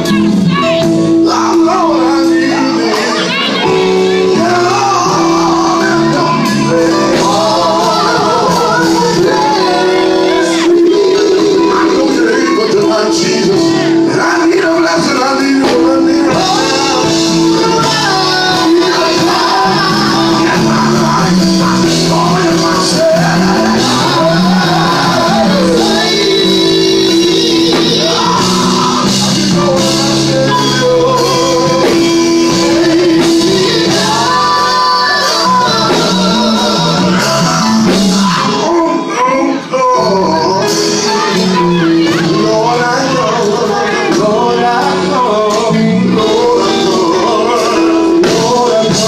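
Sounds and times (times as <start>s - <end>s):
gospel group singing: 0.0s - 49.0s
live band playing: 0.0s - 49.0s.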